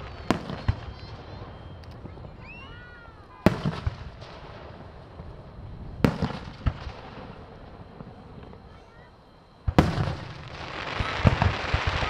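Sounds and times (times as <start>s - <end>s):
fireworks booming: 0.0s - 8.8s, 9.4s - 12.0s
fireworks crackle: 0.0s - 8.9s, 9.7s - 12.0s.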